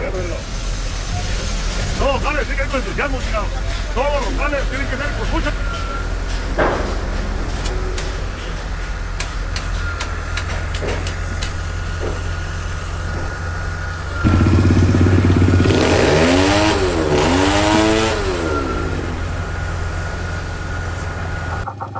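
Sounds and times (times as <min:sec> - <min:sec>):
diesel engine revving: 0:00.0 - 0:21.9
low machine hum: 0:02.2 - 0:21.9.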